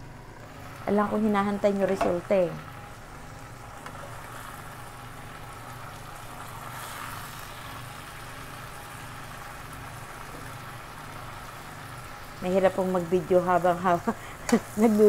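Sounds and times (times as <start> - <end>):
low motor hum: 0.0 - 15.0
pan hissing on stove: 0.5 - 15.0.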